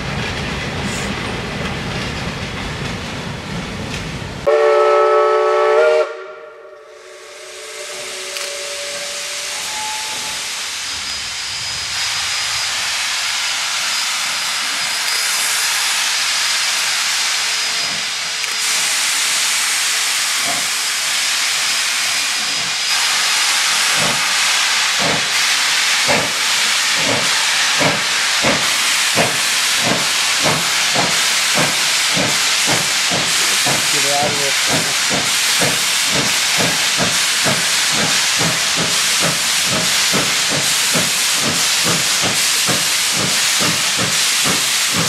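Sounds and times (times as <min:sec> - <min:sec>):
steam hissing from locomotive: 0:04.4 - 0:45.0
steam locomotive exhaust chuffs: 0:04.4 - 0:45.0.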